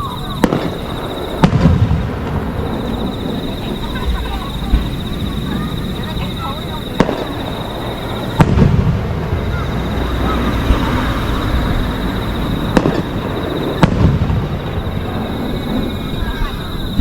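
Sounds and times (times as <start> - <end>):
fireworks shells bursting: 0.0 - 17.0
rumbling echo: 0.0 - 17.0.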